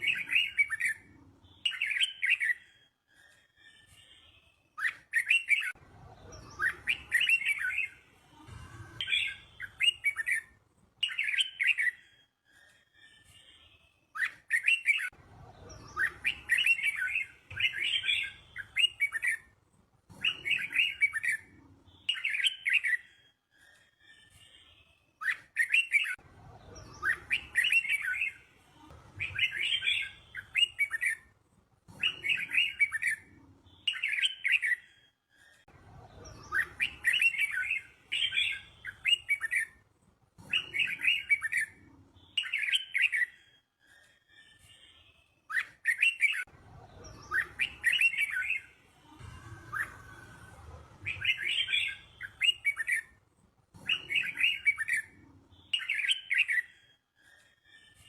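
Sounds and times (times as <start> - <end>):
bulbul song: 0.0 - 2.8, 3.8 - 12.2, 13.2 - 23.2, 24.3 - 35.1, 36.1 - 39.8, 44.6 - 53.2, 53.8 - 56.9.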